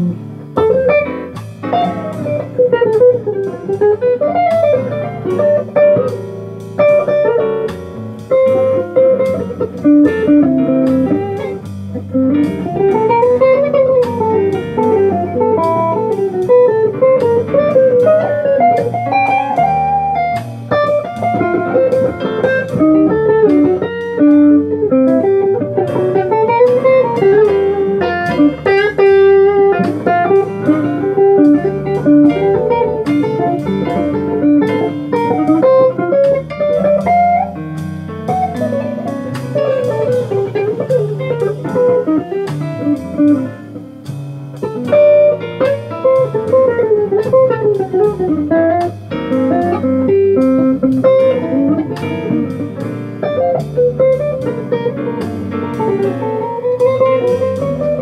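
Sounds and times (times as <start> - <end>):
electric guitar jazz solo: 0.0 - 58.0.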